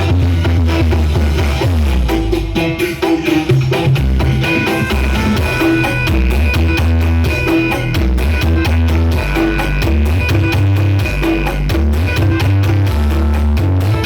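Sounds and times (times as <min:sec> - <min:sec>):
loud music with heavy bass: 0:00.0 - 0:14.0.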